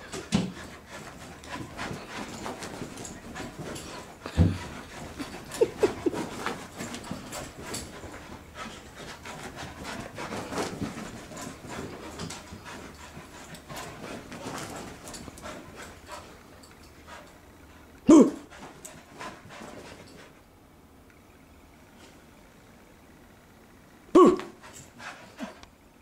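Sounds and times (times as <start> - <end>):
dog panting: 0.0 - 20.4, 24.6 - 25.7.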